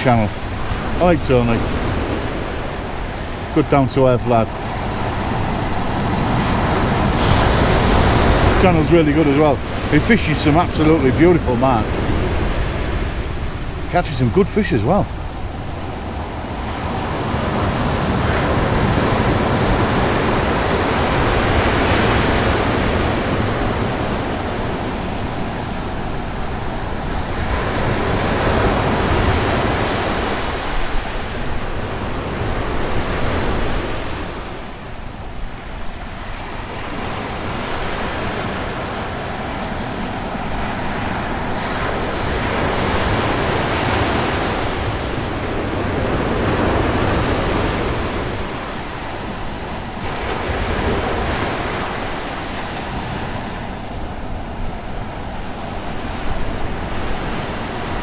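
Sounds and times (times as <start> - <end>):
sea surf breaking: 0.0 - 58.0
wind rumbling on microphone: 0.0 - 58.0.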